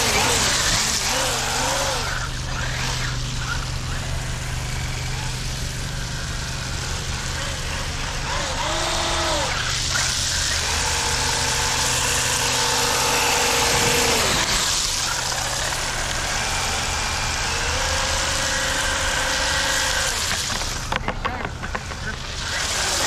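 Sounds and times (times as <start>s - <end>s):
toy truck electric motor whining: 0.0s - 23.0s.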